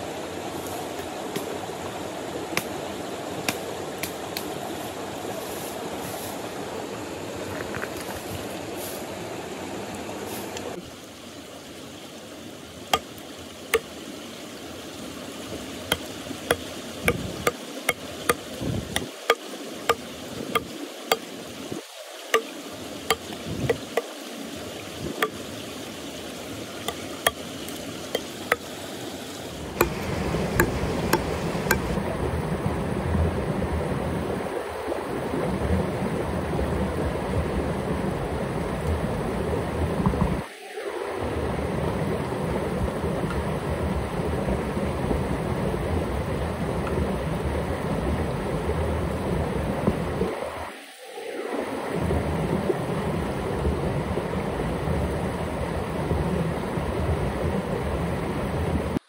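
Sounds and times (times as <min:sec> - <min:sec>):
mountain stream running: 0:00.0 - 0:59.0.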